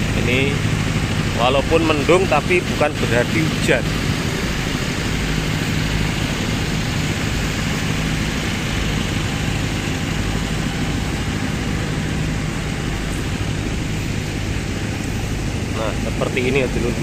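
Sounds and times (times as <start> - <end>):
generator engines droning: 0.0 - 17.0.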